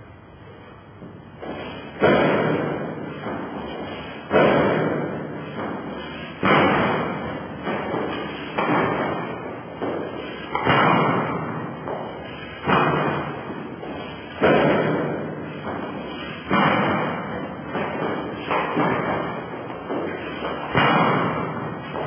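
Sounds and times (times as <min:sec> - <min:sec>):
thuds landing on trampoline: 0:01.4 - 0:22.0.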